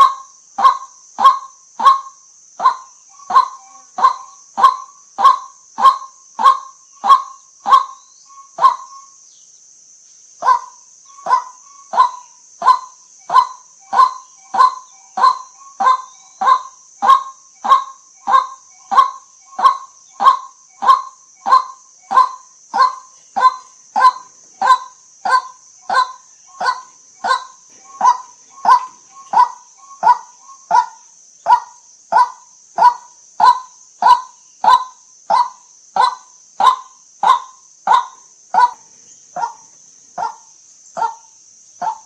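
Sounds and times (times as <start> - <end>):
bird harsh kwak call: 0.0 - 9.1, 10.4 - 42.0
high-pitched hiss: 0.0 - 42.0.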